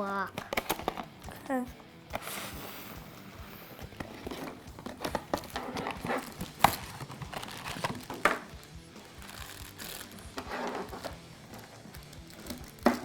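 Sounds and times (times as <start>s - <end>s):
cardboard and foil packaging rustling: 0.3s - 13.0s.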